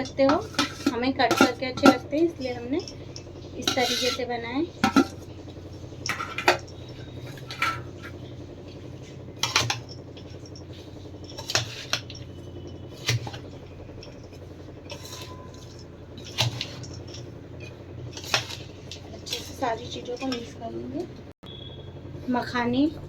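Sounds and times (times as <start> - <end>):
spoon scraping a mixing vessel: 0.0 - 20.8
low steady hum: 0.0 - 23.0.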